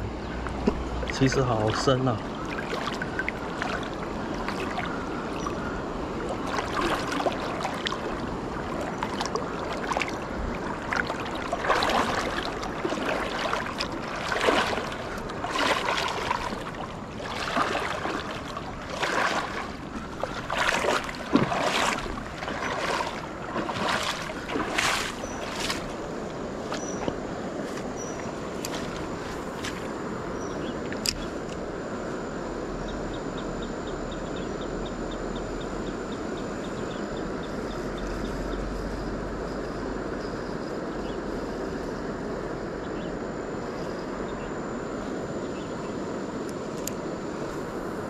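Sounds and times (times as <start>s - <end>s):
river water running: 0.0s - 48.0s
wading through water: 0.0s - 48.0s.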